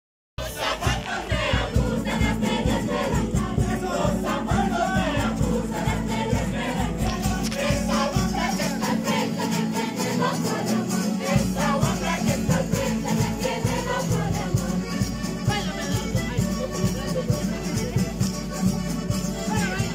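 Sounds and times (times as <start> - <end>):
group of voices singing: 0.4 - 18.0
acoustic guitar strumming: 0.4 - 19.9.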